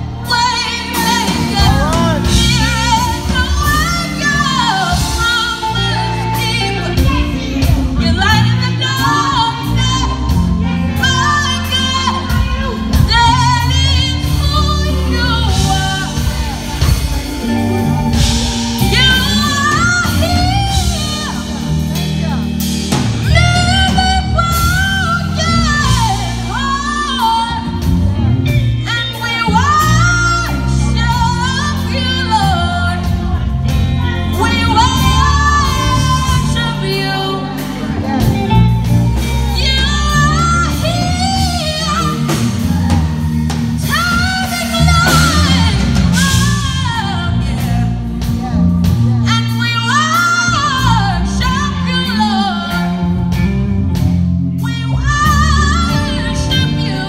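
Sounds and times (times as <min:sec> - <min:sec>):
gospel band playing: 0:00.0 - 0:57.0.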